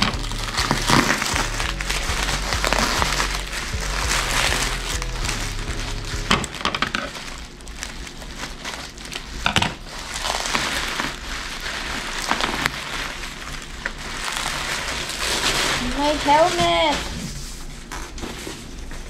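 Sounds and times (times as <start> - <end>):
bubble wrap crinkling and tearing: 0.0 - 19.0.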